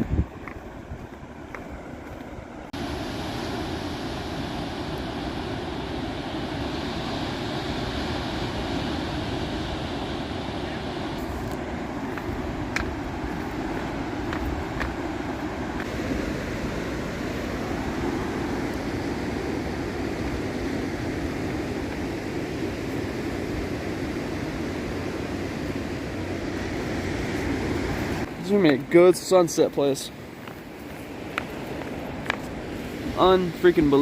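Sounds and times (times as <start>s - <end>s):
ocean surf rushing: 0.0s - 34.0s.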